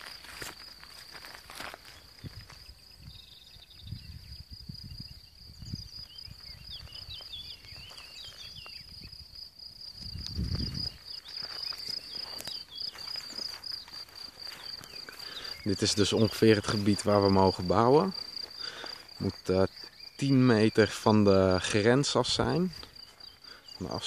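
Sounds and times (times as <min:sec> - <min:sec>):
insects chirring: 0:00.0 - 0:24.0
bird chirps: 0:01.9 - 0:09.2, 0:10.7 - 0:24.0.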